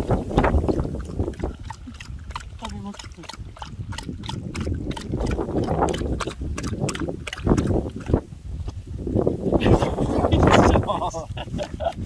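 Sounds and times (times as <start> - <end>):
dog lapping water: 0.0 - 10.8
wind rumbling on microphone: 0.0 - 12.0.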